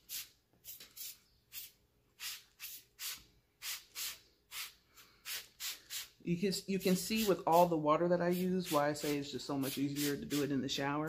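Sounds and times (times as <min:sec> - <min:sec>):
spray bottle hissing sprays: 0:00.0 - 0:06.2, 0:06.8 - 0:10.6.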